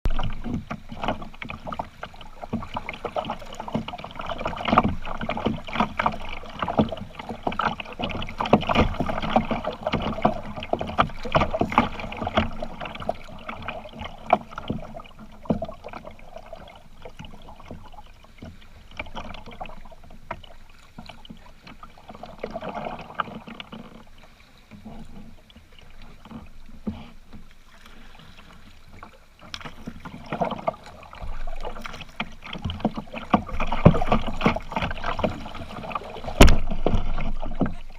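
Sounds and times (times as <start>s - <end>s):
paddle splashes and hull knocks: 0.0s - 37.9s.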